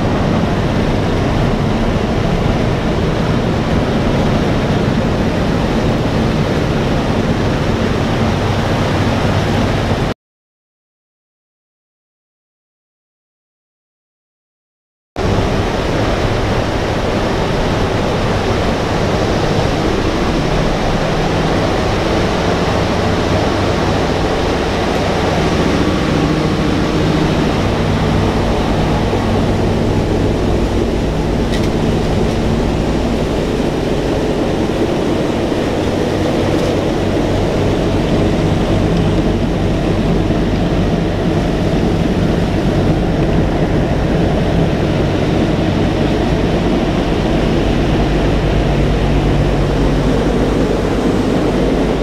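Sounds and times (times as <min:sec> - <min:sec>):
aircraft radial engines droning: 0:00.0 - 0:10.1, 0:15.2 - 0:52.0.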